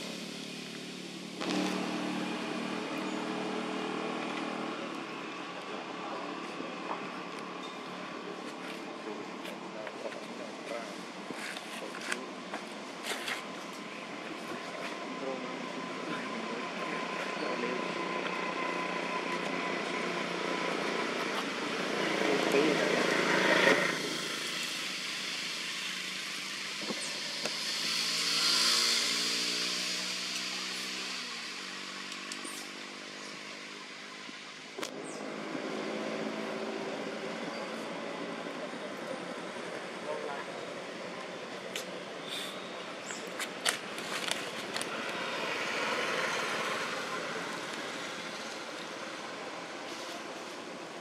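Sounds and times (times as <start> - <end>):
motorbike passing: 0.0 - 9.2, 13.4 - 51.0
vehicle tyre and engine noise: 0.0 - 51.0.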